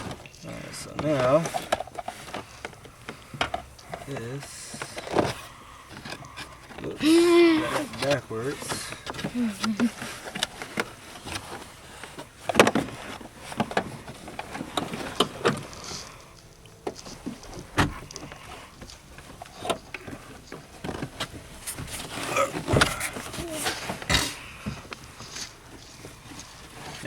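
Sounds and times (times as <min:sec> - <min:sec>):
clicks and knocks of handling: 0:00.0 - 0:07.0, 0:07.8 - 0:27.0.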